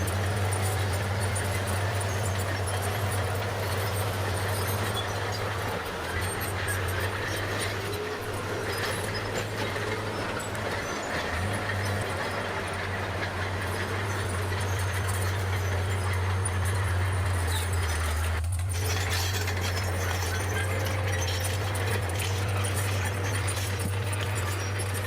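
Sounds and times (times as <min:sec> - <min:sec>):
bulldozer diesel engine drone: 0:00.0 - 0:25.0
steel tracks clanking: 0:00.0 - 0:25.0.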